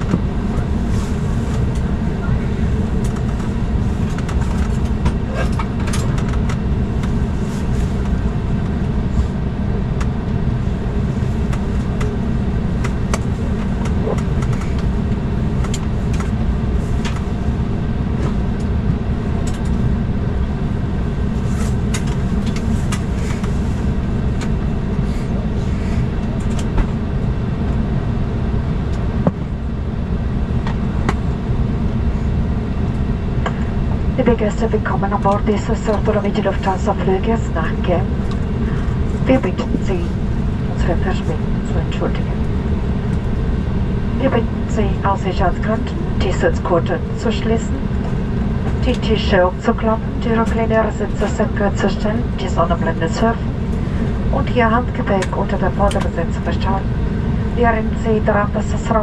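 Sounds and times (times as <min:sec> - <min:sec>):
aircraft cabin rumble and hum: 0:00.0 - 0:59.0.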